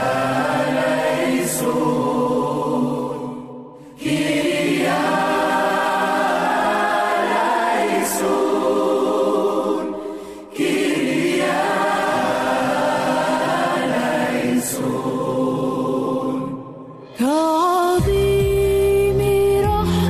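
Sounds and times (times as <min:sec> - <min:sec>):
choir singing: 0:00.0 - 0:17.6.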